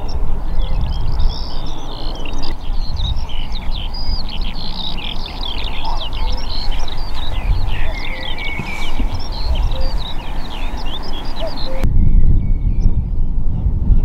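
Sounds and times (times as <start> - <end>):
small birds chirping and singing: 0.0 - 14.0.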